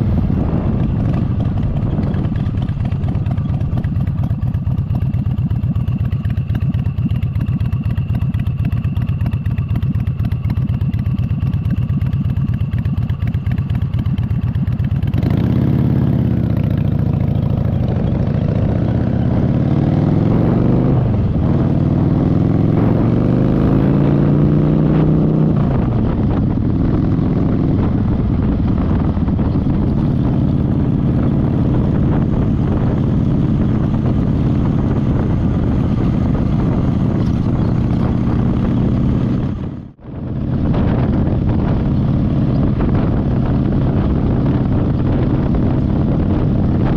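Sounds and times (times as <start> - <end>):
motorcycle engine idling and accelerating: 0.0 - 46.9.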